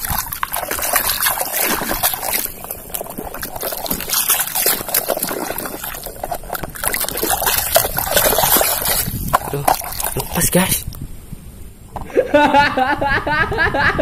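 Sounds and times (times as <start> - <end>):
water splashing and sloshing: 0.0 - 11.4.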